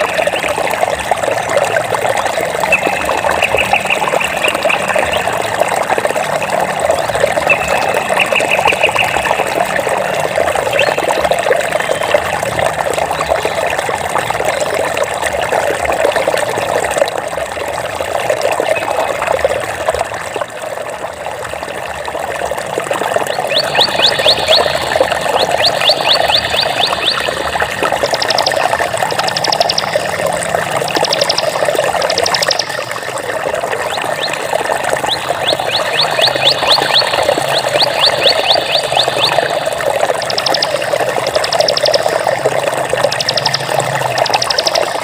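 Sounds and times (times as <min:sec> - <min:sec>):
water trickling and splashing: 0:00.0 - 0:45.0.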